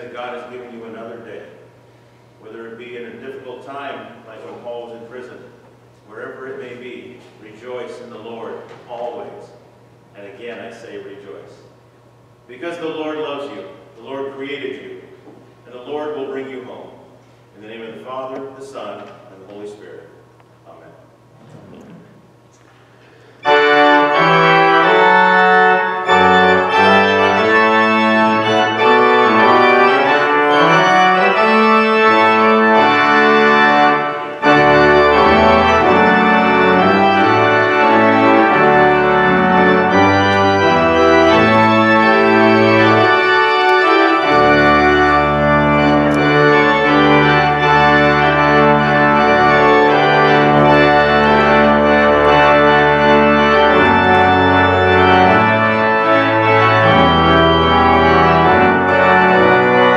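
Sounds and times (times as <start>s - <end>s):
deep organ pedal notes: 0.0s - 59.9s
pipe organ chords: 0.0s - 59.9s.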